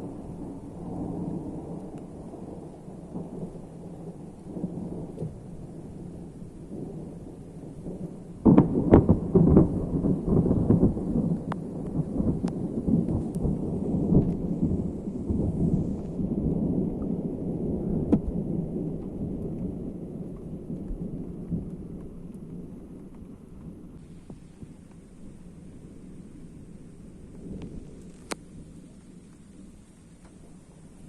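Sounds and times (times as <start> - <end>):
thunder rolling and rumbling: 0.0 - 31.0.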